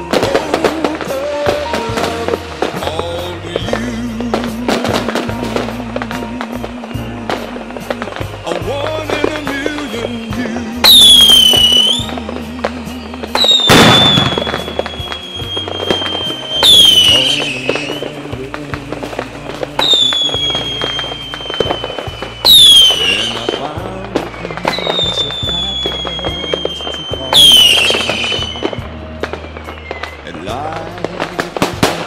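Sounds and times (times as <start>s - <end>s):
firework bang: 0.0s - 32.0s
firework whistles: 0.0s - 32.0s
instrumental music with bass line: 0.0s - 32.0s.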